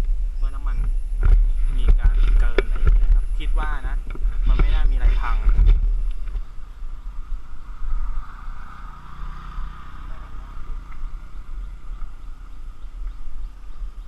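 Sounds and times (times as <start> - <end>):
motorcycle engine low rumble: 0.0 - 14.0
wind buffeting microphone: 0.0 - 14.0.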